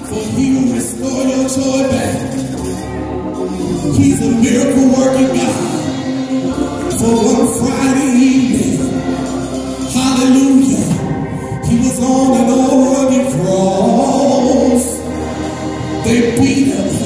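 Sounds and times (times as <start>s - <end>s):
drum kit and cymbals: 0.0s - 17.0s
group of voices singing: 0.0s - 17.0s.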